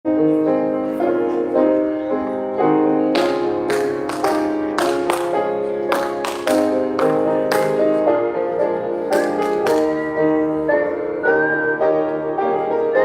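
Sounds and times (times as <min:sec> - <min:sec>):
slow piano chords: 0:00.1 - 0:13.0.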